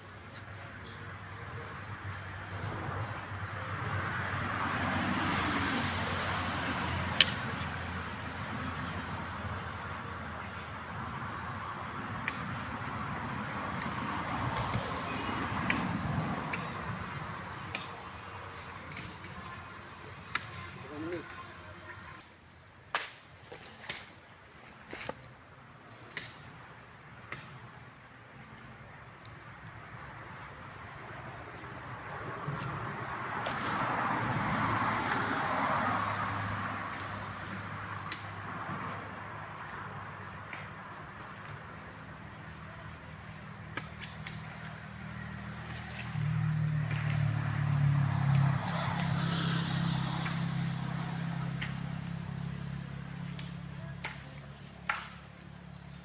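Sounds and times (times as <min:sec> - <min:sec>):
vehicle engine humming: 0:00.0 - 0:22.9, 0:29.4 - 0:56.0.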